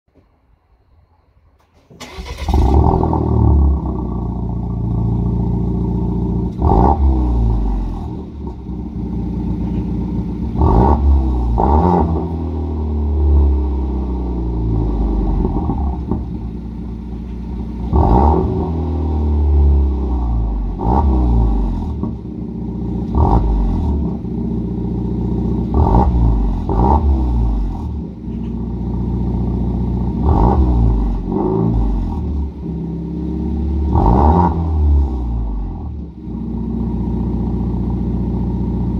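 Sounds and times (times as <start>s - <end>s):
car engine revving and idling: 2.0s - 38.9s.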